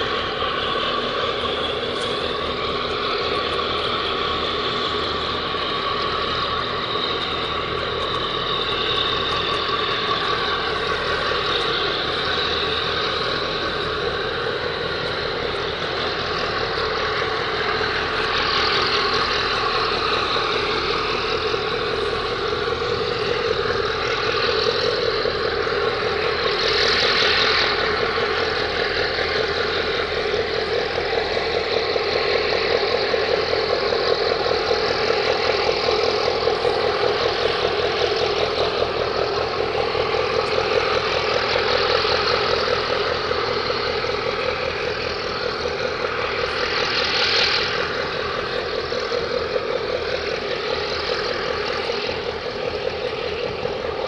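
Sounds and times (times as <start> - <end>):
boat engine droning: 0.0 - 54.0
rushing water: 0.0 - 54.0.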